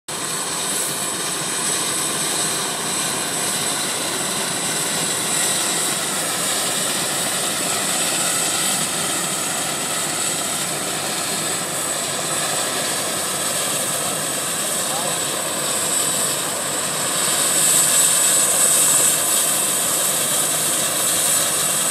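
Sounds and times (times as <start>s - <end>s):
helicopter rotor: 0.1s - 21.9s
high-pitched turbine whine: 0.1s - 21.9s.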